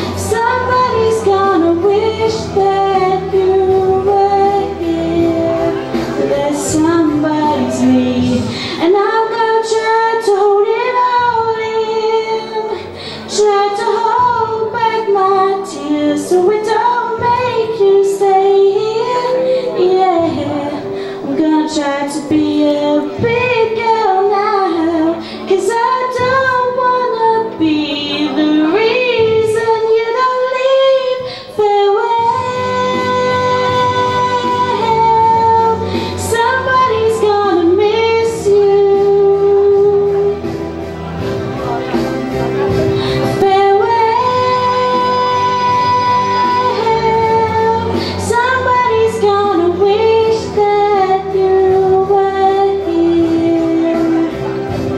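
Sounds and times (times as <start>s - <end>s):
woman singing slow song: 0.0s - 40.7s, 43.0s - 54.9s
quiet musical accompaniment: 0.0s - 54.9s.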